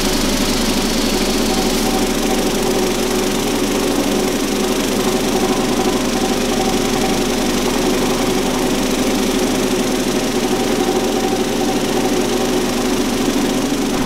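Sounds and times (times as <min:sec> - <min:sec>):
sanding machine running: 0:00.0 - 0:14.0.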